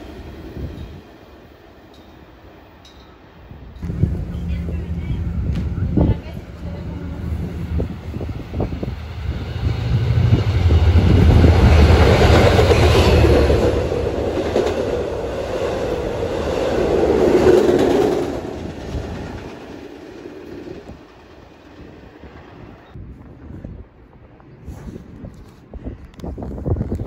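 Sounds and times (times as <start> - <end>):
passenger train passing: 0.0 - 24.4
deep train rumble: 0.0 - 24.9.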